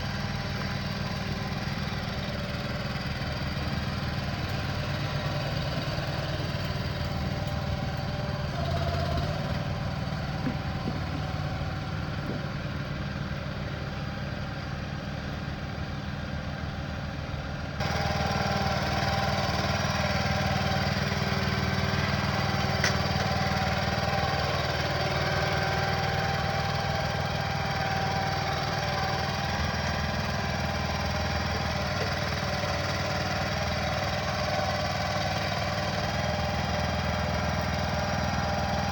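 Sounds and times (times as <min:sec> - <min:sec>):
machinery engine running: 0:00.0 - 0:16.8, 0:17.8 - 0:38.9.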